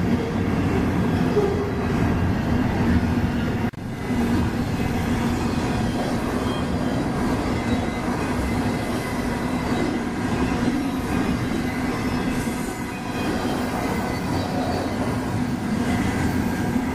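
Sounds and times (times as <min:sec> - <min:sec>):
freight train wheels rumbling on rail: 0:00.0 - 0:16.9.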